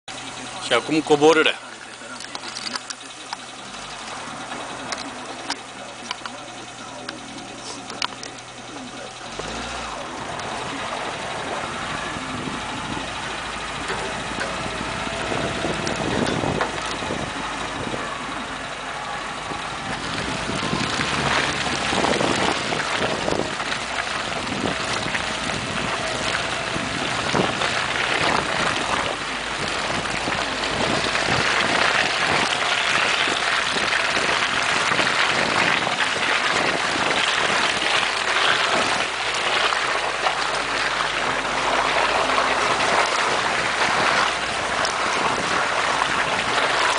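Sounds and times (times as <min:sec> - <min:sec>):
car engine running: 0:00.0 - 0:46.9
vehicle knocking over ruts: 0:00.1 - 0:46.9.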